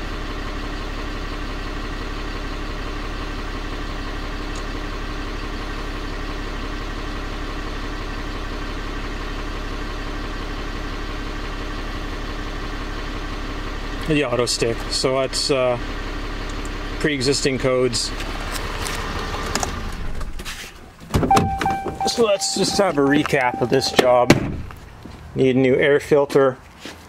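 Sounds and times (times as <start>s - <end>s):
diesel engine idling: 0.0s - 25.5s.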